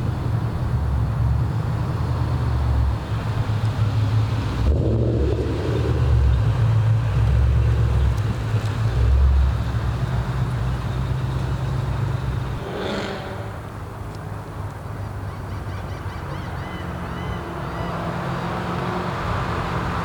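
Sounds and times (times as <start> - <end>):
car engine and exhaust rumbling: 0.0 - 20.0.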